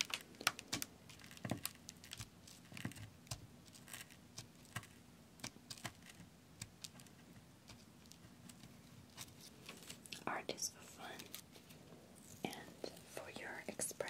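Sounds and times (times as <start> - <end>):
stick clicking and scratching: 0.0 - 14.0.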